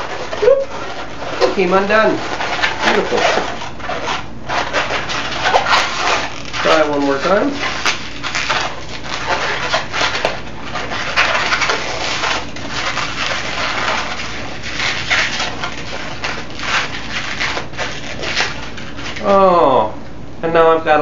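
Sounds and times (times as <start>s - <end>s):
balloon rubber squeaking: 0.0s - 19.5s.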